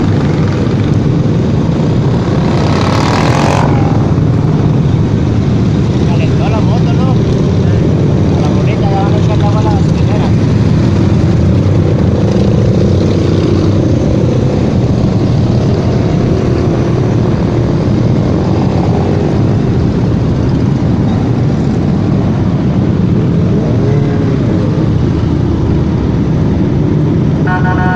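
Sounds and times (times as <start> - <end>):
road and wind noise: 0.0 - 27.9.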